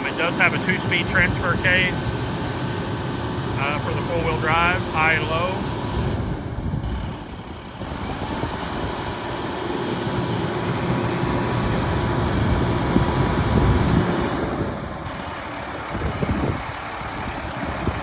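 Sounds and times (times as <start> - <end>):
truck diesel engine at high idle: 0.0 - 18.0.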